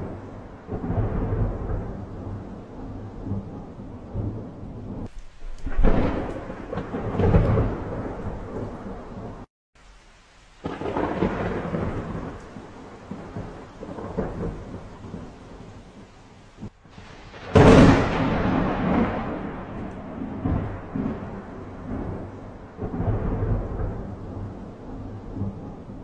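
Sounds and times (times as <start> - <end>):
rolling thunder: 0.0 - 9.5, 10.6 - 26.0.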